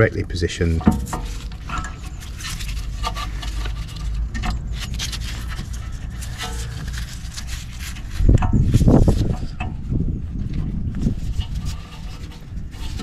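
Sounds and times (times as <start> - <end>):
low steady rumble: 0.0 - 13.0
metal caliper scraping and clicking: 0.7 - 9.9, 10.6 - 13.0.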